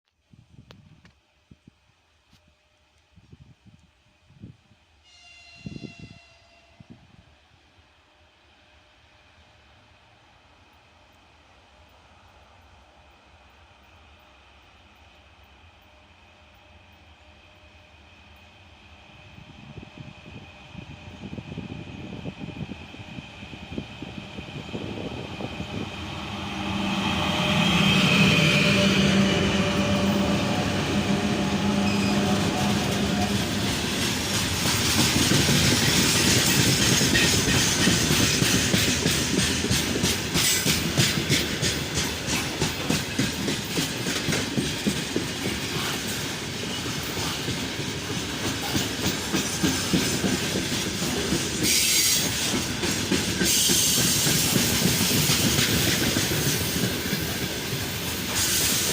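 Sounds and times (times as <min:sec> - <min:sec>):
electric locomotive humming: 0:00.5 - 0:58.9.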